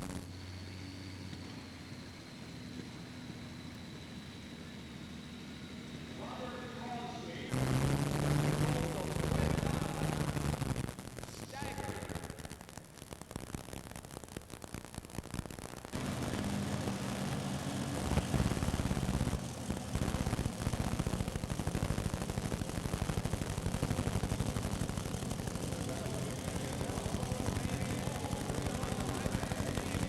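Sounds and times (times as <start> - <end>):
tractor engine running hard: 0.0 - 10.8, 16.0 - 30.0.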